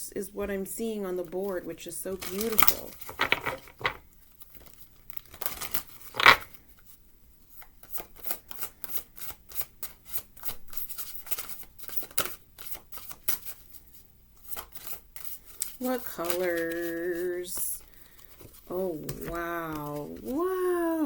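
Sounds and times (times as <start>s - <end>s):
cards being shuffled: 2.1s - 6.5s, 7.5s - 21.0s.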